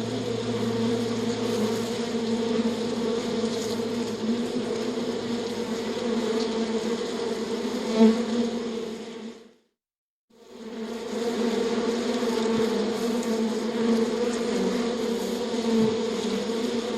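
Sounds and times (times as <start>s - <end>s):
insect wing buzz: 0.0s - 9.6s, 10.4s - 16.9s.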